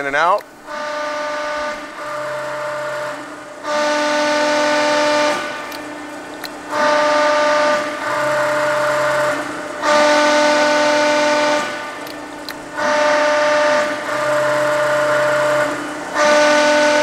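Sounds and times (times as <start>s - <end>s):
hydraulic press whining: 0.0s - 17.0s.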